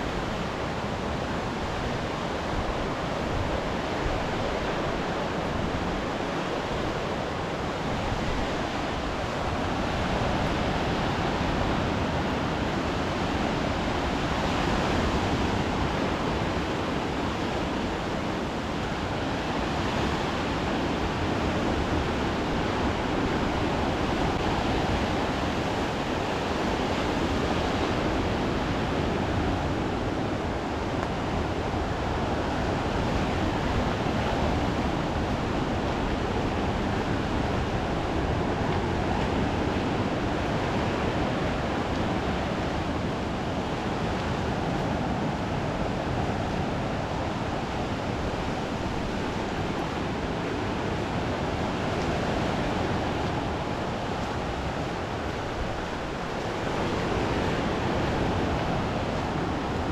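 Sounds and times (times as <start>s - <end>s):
sea surf on shore: 0.0s - 59.9s
wind: 0.0s - 59.9s.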